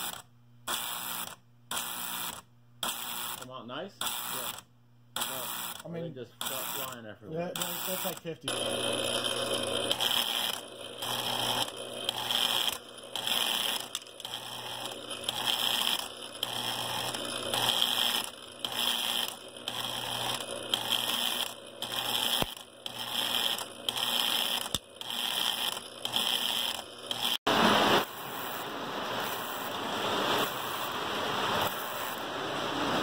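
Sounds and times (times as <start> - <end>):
toy train mechanism buzzing: 0.0 - 27.4, 28.0 - 33.0.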